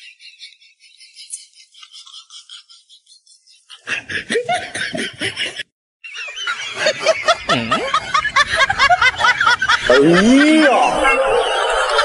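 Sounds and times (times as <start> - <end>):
dubbed laughter giggles: 0.0 - 12.0.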